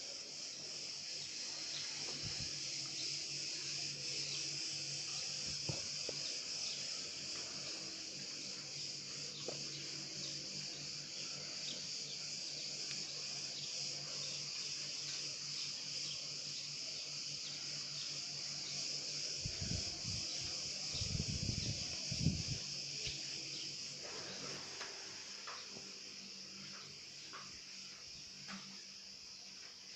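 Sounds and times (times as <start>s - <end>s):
insects buzzing: 0.0s - 29.9s.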